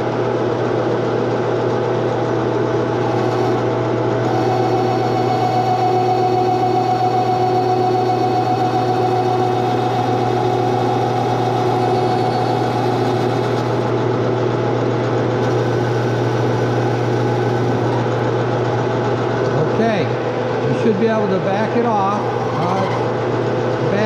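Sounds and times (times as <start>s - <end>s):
metal lathe running: 0.0s - 24.0s.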